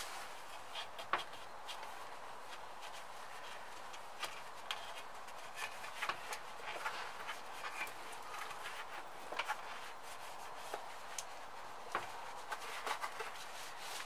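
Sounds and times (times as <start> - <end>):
cloth rubbing on metal: 0.0 - 14.0.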